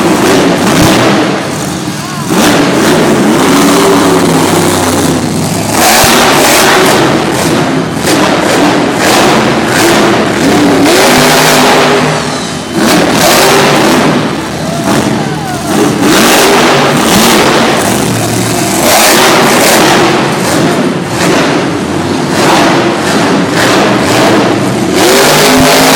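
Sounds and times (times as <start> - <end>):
monster truck engines revving: 0.0 - 25.9.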